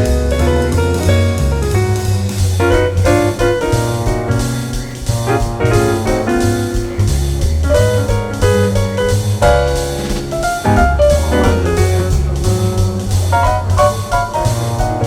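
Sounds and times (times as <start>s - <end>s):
jazzy instrumental music: 0.0s - 15.0s.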